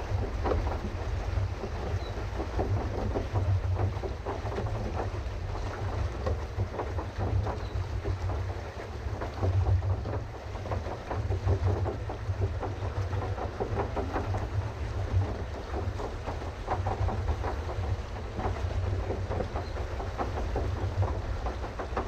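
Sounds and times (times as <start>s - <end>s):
paddle wheel churning water: 0.0s - 22.0s.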